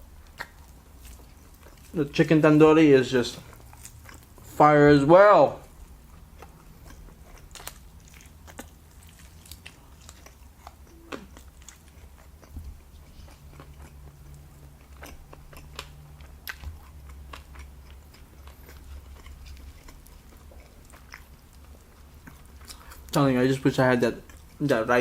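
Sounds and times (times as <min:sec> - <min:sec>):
person chewing: 0:00.0 - 0:02.2, 0:03.2 - 0:04.6, 0:05.6 - 0:23.2, 0:24.2 - 0:24.9
low steady hum: 0:00.0 - 0:25.0.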